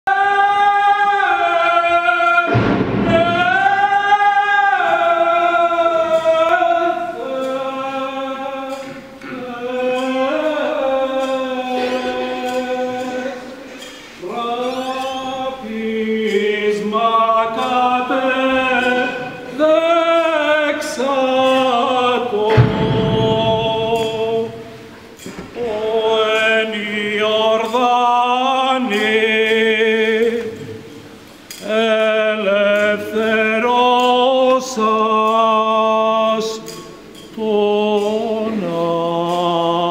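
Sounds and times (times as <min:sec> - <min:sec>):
men singing a cappella chant: 0:00.0 - 0:39.9.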